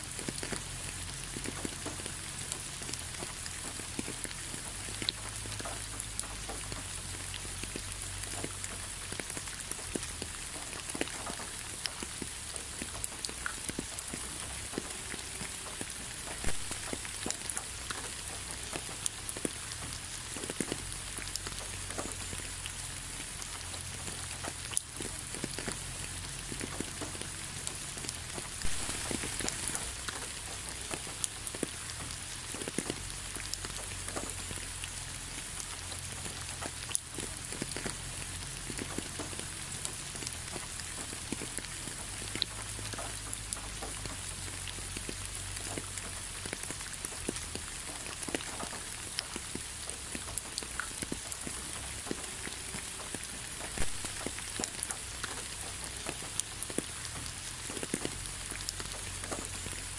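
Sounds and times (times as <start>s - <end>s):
rain drop ticks: 0.0s - 59.9s
steady rain falling: 0.0s - 59.9s.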